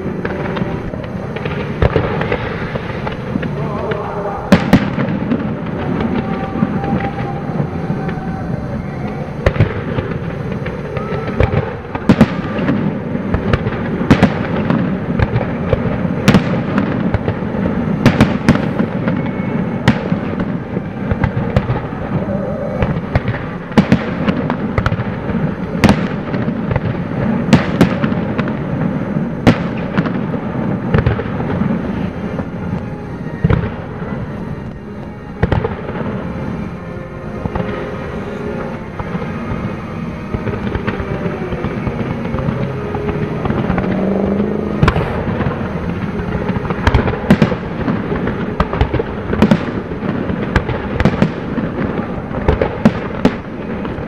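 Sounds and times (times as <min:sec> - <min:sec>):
fireworks bangs: 0:00.0 - 0:54.0
low rumble: 0:00.0 - 0:54.0.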